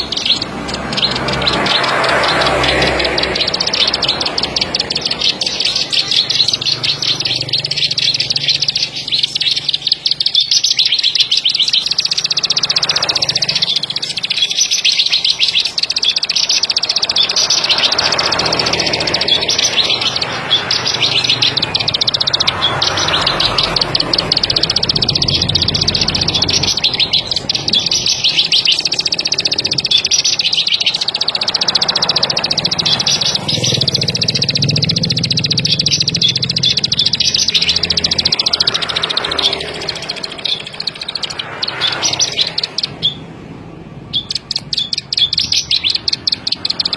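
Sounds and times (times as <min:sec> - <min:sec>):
bird singing rapid high notes: 0:00.0 - 0:46.9.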